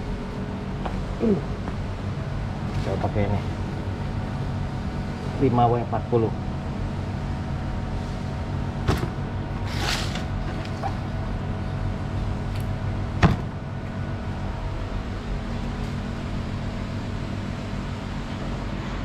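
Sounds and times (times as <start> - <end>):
workshop machinery hum: 0.0 - 19.0.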